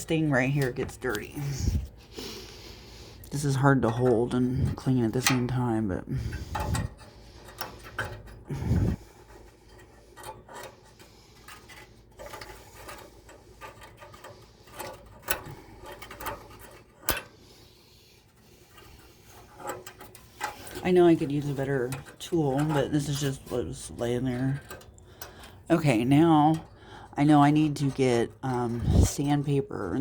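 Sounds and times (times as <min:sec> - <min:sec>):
tool scraping metal: 0:00.0 - 0:30.0.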